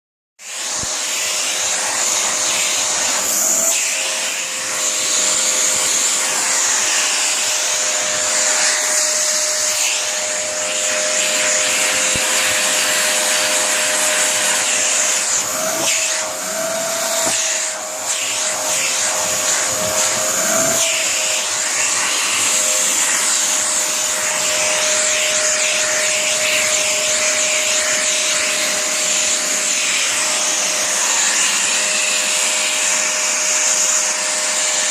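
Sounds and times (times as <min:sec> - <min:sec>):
vacuum cleaner running: 0:00.4 - 0:34.9.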